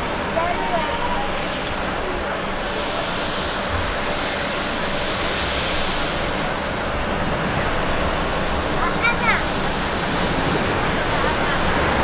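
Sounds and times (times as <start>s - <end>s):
jet airliner landing: 0.0s - 12.0s.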